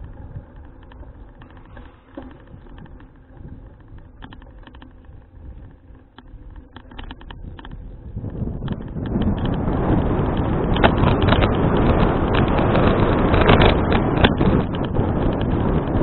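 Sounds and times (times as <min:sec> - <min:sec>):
bicycle tyres rumbling: 0:00.0 - 0:16.0
bike clicks and rattles: 0:00.0 - 0:16.0
wind on microphone: 0:00.0 - 0:16.0.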